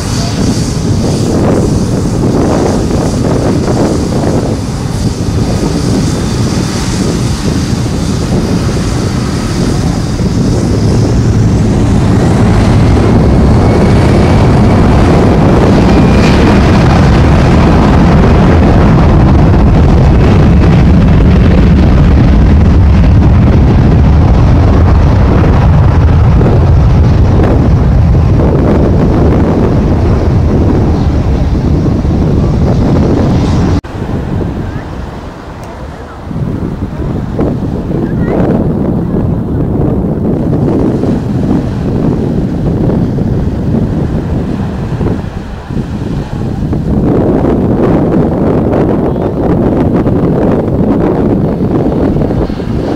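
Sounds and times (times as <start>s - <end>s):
jet airliner engine noise: 0.0s - 52.9s
wind rumble on microphone: 0.0s - 52.9s.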